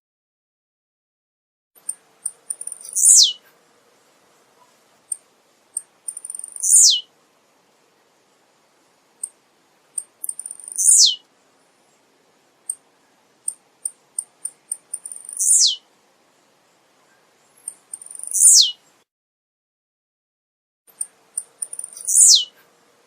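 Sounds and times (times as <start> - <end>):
bird singing high buzzy song: 1.8 - 7.2, 7.8 - 19.1, 20.9 - 22.8.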